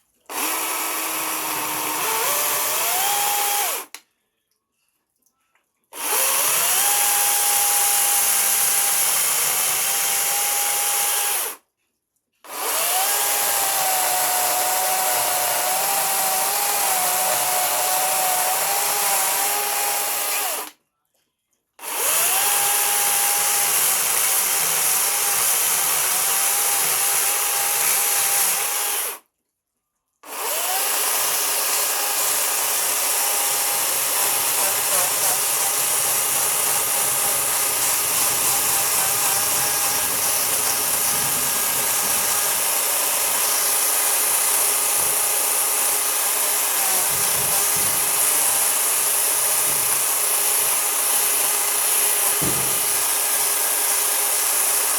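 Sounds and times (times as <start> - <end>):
power tool motor whining: 0.3 - 4.0, 6.0 - 11.6, 12.5 - 20.7, 21.8 - 29.2, 30.2 - 54.9.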